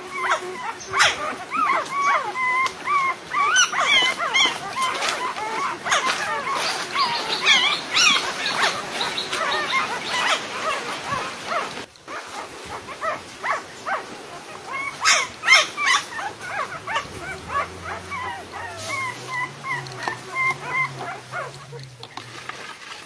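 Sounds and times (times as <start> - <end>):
dogs whimpering and yipping: 0.0 - 22.5.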